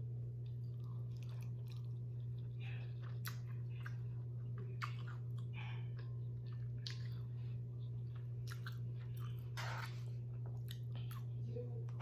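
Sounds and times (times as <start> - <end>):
person chewing food: 0.0 - 11.4
steady low hum: 0.0 - 12.0.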